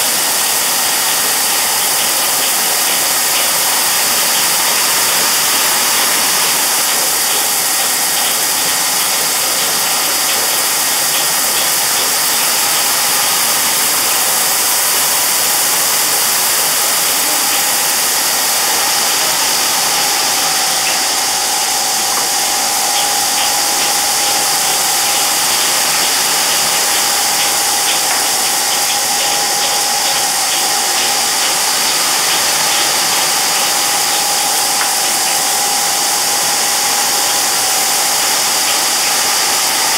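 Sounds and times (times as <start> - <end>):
thin steady whine: 0.0 - 39.9.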